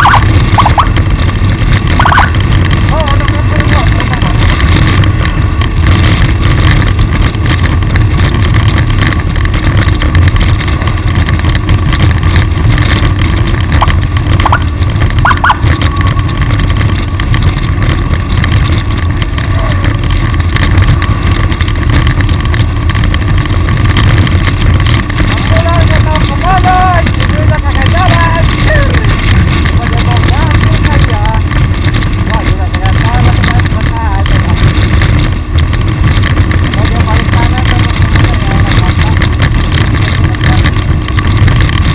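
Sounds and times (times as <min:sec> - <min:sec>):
vehicle engine road and wind noise: 0:00.0 - 0:41.9.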